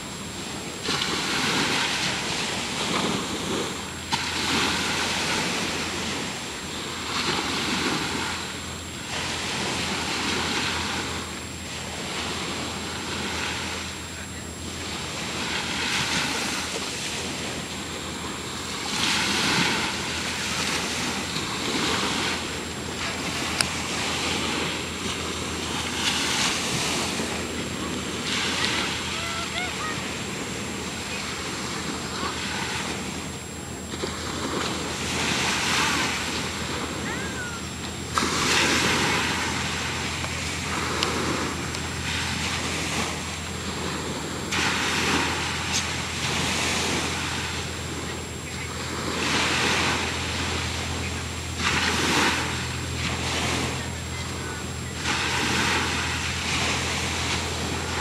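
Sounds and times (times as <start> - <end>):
ocean surf washing ashore: 0.0 - 58.0
steady low hum: 0.0 - 58.0.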